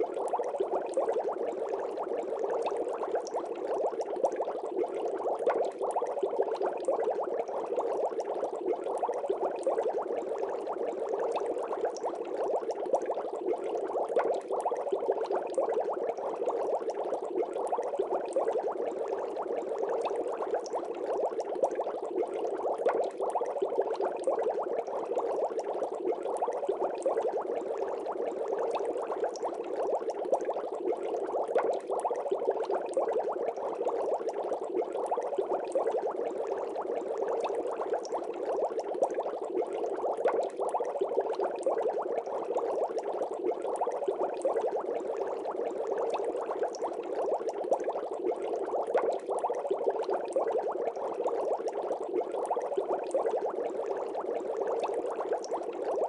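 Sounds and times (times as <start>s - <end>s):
water bubbling: 0.0s - 56.0s.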